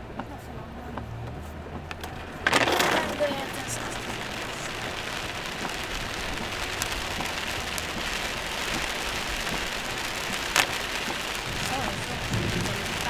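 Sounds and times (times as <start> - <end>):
heavy rain on a car: 0.0 - 13.0
sharp raindrop hits: 1.0 - 13.0.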